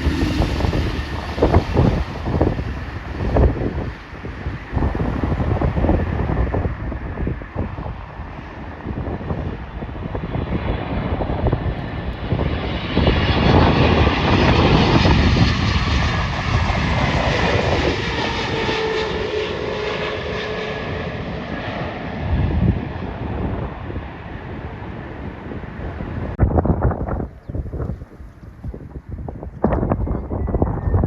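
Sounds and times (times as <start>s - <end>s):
jet airliner passing: 0.0s - 31.0s
wind buffeting microphone: 0.0s - 31.0s.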